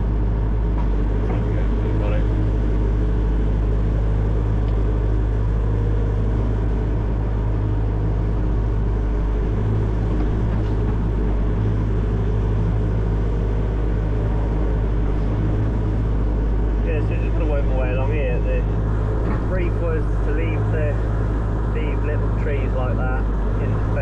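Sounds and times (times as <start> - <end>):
excavator diesel engine droning: 0.0 - 24.0.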